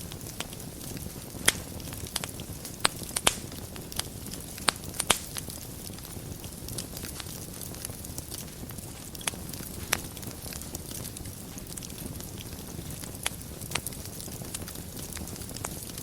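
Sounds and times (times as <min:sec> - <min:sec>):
fire crackling and popping: 0:00.0 - 0:16.0
fire low rumble: 0:00.0 - 0:16.0.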